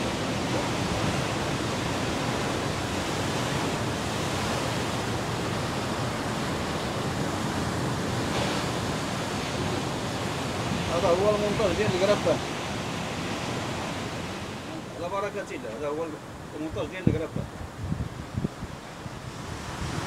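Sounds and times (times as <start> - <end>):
ocean surf breaking over rocks: 0.0 - 20.0.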